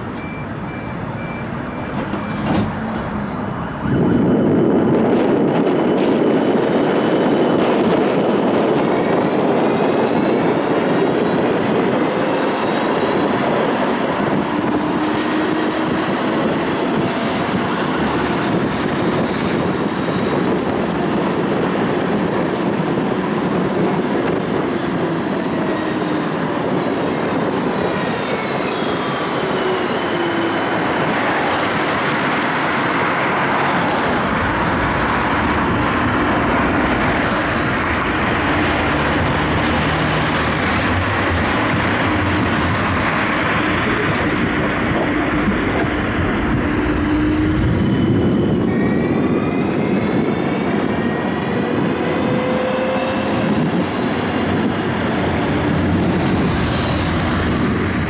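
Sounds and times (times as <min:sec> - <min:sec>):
tram rolling on rails: 0:00.0 - 0:58.0.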